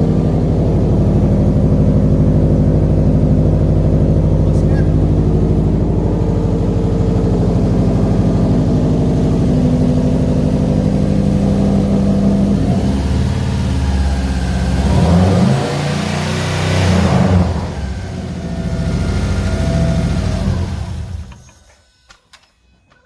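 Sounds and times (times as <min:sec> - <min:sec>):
car engine idling and revving: 0:00.0 - 0:21.6.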